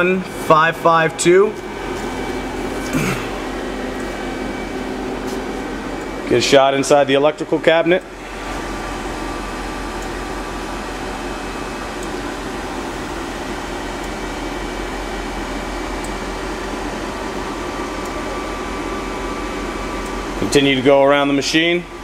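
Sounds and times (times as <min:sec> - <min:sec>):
cooling fans whirring: 0:00.0 - 0:22.0
low electrical hum: 0:00.0 - 0:22.0.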